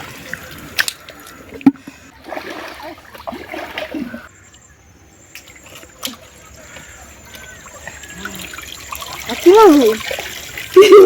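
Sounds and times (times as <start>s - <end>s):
river water trickling and splashing: 0.0s - 11.0s.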